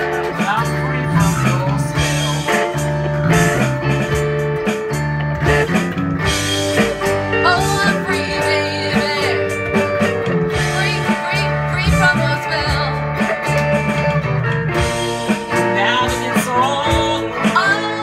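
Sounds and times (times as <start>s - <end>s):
bass line: 0.0s - 18.0s
blues-rock band playing: 0.0s - 18.0s
electric guitar: 0.0s - 18.0s.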